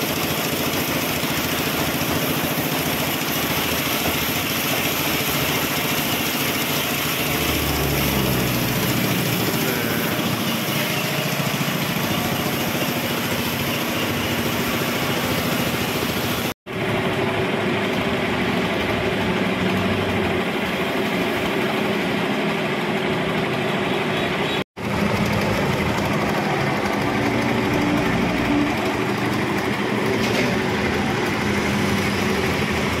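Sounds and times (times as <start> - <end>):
spin dryer motor whirring: 0.0 - 33.0.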